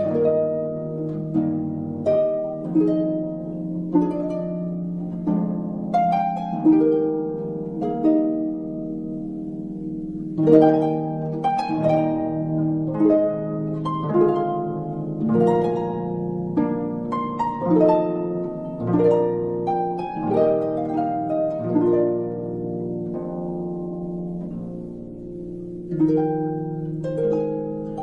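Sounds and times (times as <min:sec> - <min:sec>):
harp playing slow notes: 0:00.0 - 0:28.0.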